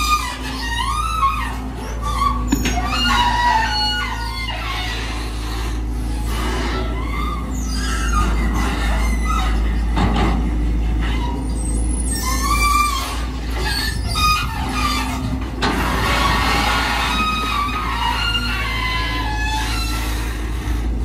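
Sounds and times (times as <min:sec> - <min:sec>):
excavator diesel engine: 0:00.0 - 0:21.0.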